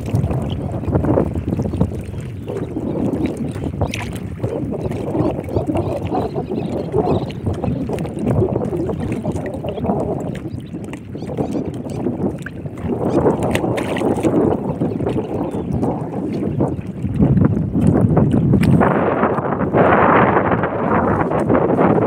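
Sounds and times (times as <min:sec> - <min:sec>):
water lapping against boat: 0:00.0 - 0:22.0
wind rumbling on microphone: 0:00.0 - 0:22.0.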